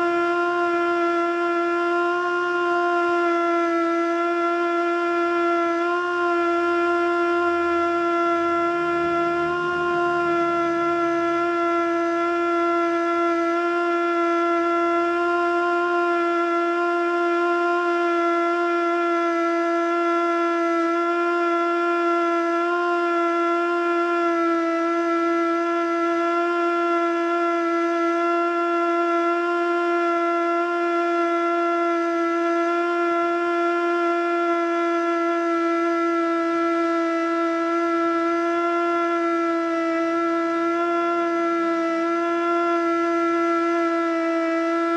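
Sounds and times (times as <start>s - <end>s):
siren steady wavering tone: 0.0s - 44.9s.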